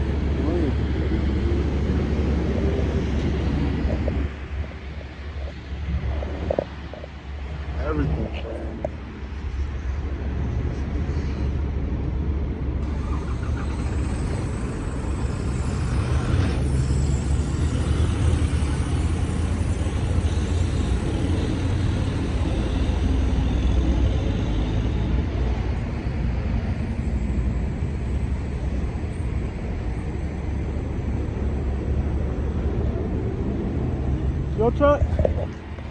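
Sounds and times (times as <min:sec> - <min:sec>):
heavy truck engines rumbling: 0:00.0 - 0:35.9.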